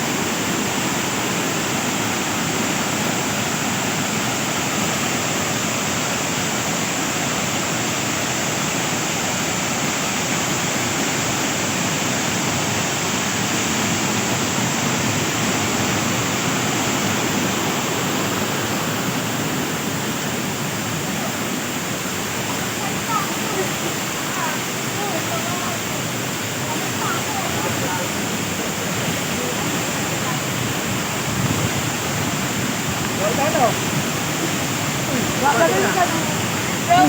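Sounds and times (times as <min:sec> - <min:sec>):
waterfall pouring: 0:00.0 - 0:37.0.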